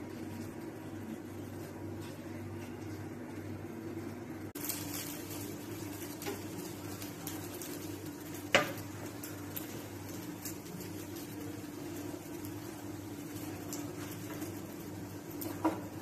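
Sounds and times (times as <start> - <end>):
bread sizzling in a frying pan: 0.0 - 16.0
steady low hum: 0.0 - 16.0.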